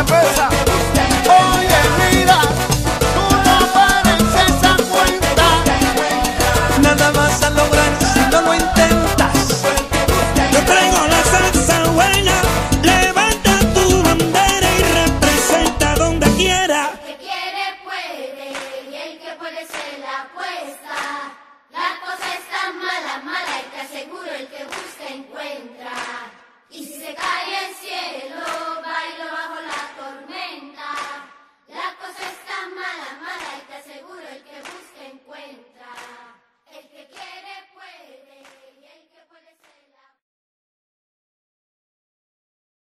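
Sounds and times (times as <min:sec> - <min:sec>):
group of voices singing: 0:00.0 - 0:39.9.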